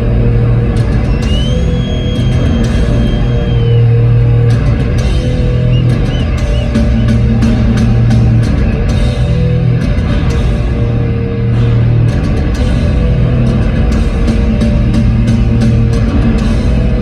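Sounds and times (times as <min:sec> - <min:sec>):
heavy metal band playing: 0:00.0 - 0:17.0.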